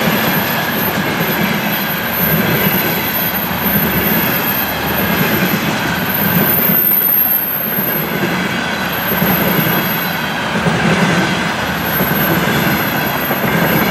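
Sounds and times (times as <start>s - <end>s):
train wheels on rails: 0.0s - 13.9s.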